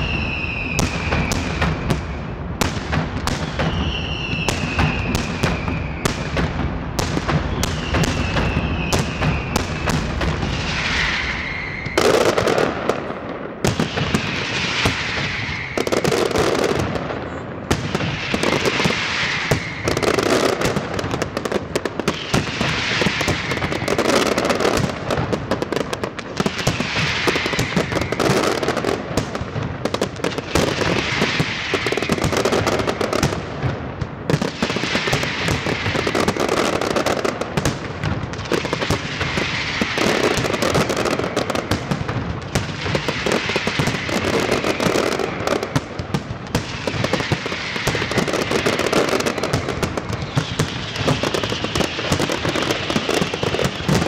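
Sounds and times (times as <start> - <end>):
fireworks whistling falling in pitch: 0.0 - 12.8, 13.6 - 25.1, 25.7 - 29.0, 30.2 - 33.3, 34.3 - 37.4, 38.4 - 54.0
fireworks crackling and banging: 0.0 - 54.0.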